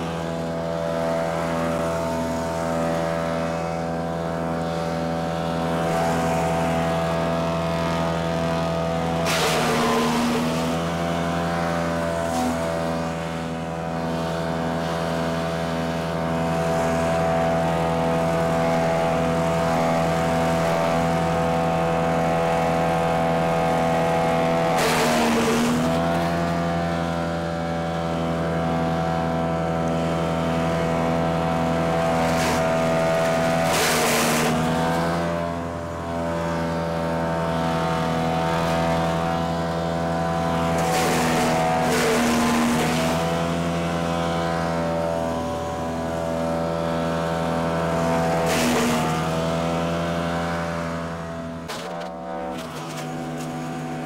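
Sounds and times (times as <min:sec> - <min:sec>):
wood chipper engine running: 0:00.0 - 0:54.0.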